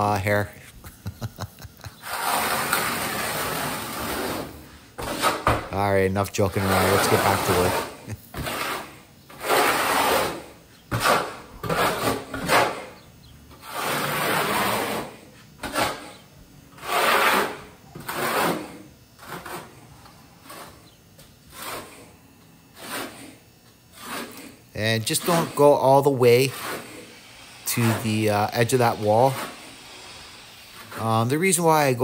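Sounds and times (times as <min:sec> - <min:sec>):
trowel scraping mortar: 0:00.0 - 0:32.0.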